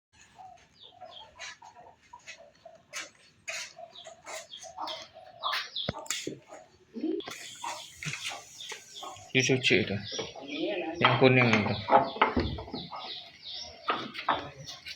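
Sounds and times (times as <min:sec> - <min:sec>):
animal clucking calls: 0:00.2 - 0:14.9.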